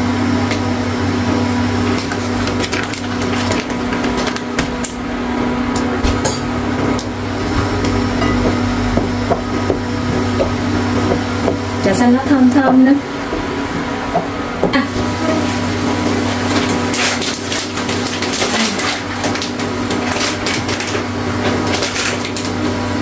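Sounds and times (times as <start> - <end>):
kitchen appliance humming: 0.0 - 23.0.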